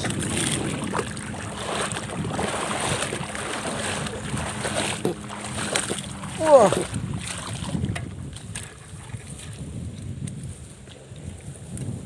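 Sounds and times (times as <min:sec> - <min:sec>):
wind blowing over microphone: 0:00.0 - 0:12.0.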